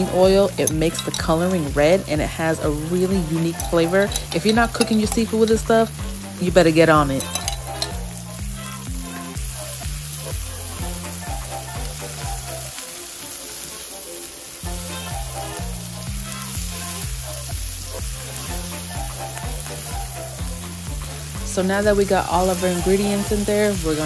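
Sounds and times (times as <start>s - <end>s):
spatula stirring: 0.0s - 12.8s, 14.7s - 24.0s
background music with bass line: 0.0s - 13.5s, 14.6s - 24.0s
shrimp sizzling in a pan: 0.0s - 24.0s.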